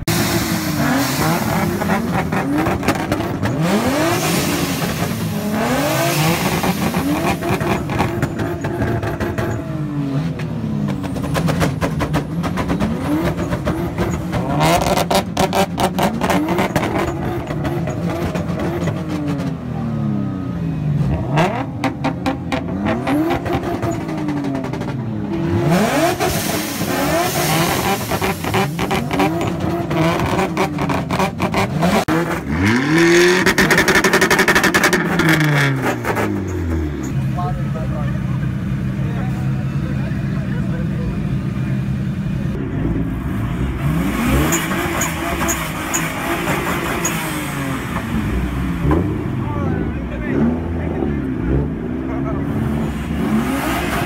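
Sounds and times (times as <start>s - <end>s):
exhaust crackling: 0.0s - 19.9s, 20.6s - 54.0s
car engine revving: 0.0s - 54.0s.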